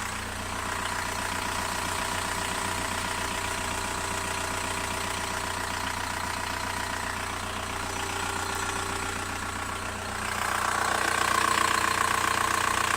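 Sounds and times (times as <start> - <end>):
diesel engine idling with ticking: 0.0 - 12.9.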